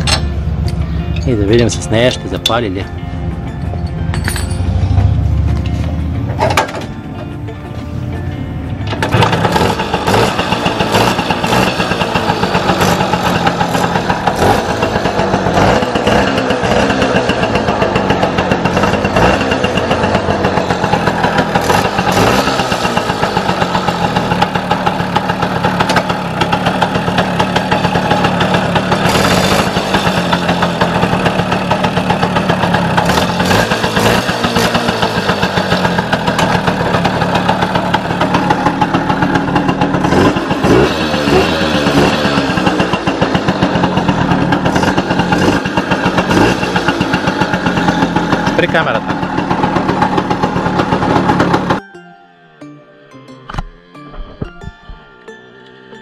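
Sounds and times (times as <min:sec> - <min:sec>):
moped engine idling: 0:00.0 - 0:52.7.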